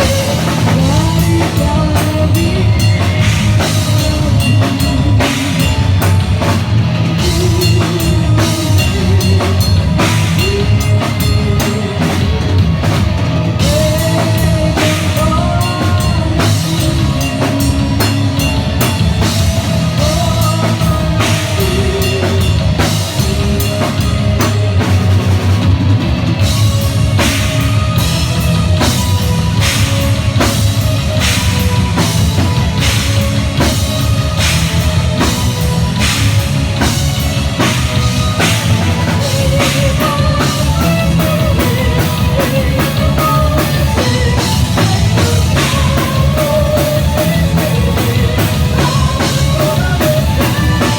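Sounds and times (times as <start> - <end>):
heavy metal band playing: 0.0 - 50.9
rapid drum and cymbal hits: 0.0 - 50.9.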